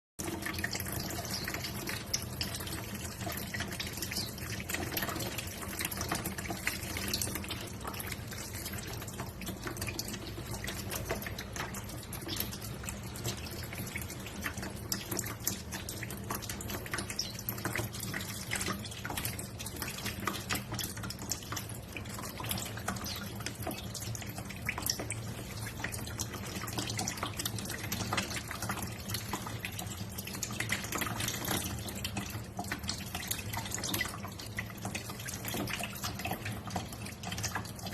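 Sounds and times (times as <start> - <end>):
water trickling and splashing: 0.2 - 37.9.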